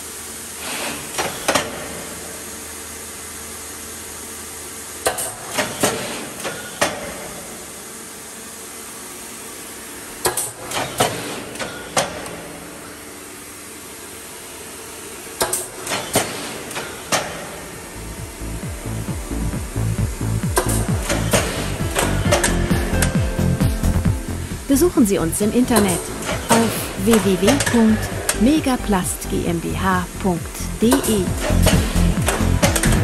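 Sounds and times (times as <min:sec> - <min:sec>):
steady machine hiss: 0:05.4 - 0:33.0.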